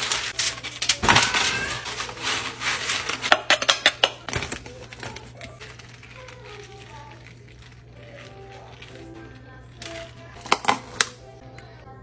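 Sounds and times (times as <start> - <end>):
tortilla chips rustling and clicking: 0.0 - 11.2.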